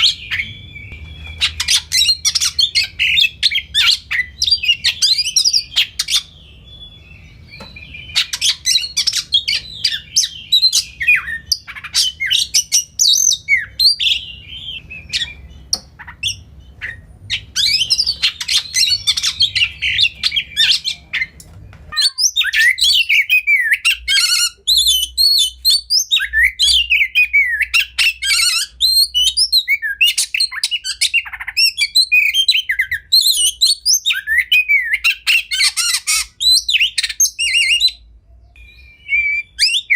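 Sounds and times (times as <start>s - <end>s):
bird singing whistles and chirps: 0.0s - 39.9s
low background hum: 0.0s - 39.9s.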